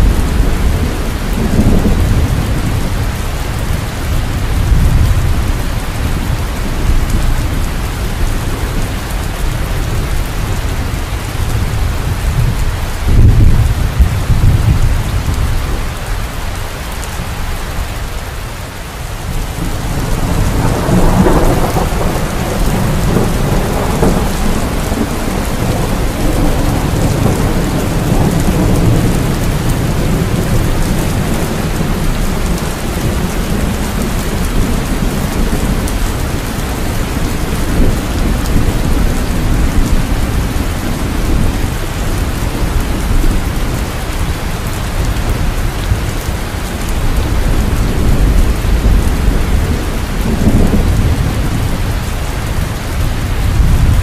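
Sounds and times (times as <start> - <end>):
low rolling thunder: 0.0 - 17.6, 19.1 - 54.0
heavy rain falling: 0.0 - 54.0.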